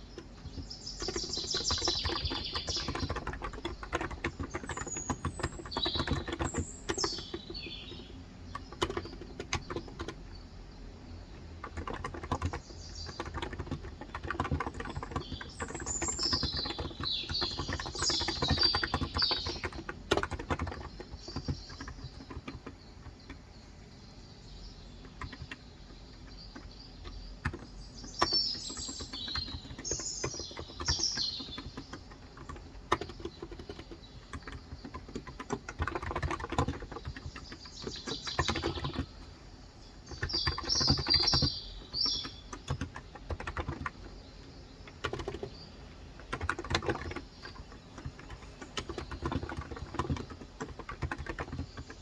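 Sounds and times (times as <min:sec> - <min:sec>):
keyboard typing: 0:00.0 - 0:10.4, 0:11.1 - 0:23.5, 0:24.9 - 0:52.0
small birds chirping: 0:00.0 - 0:52.0.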